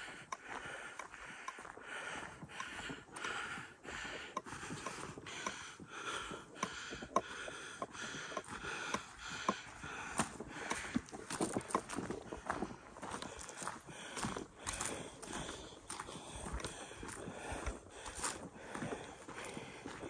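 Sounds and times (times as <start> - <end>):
footsteps crunching on gravel: 0.0 - 20.0
person breathing: 0.0 - 20.0.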